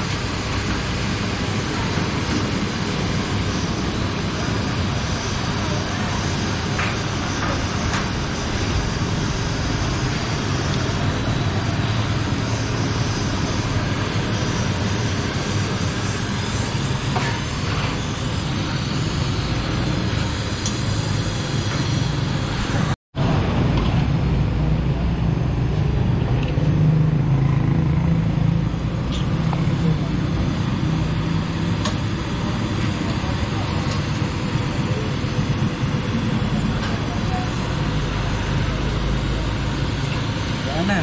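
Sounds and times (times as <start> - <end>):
low traffic rumble: 0.0 - 41.0.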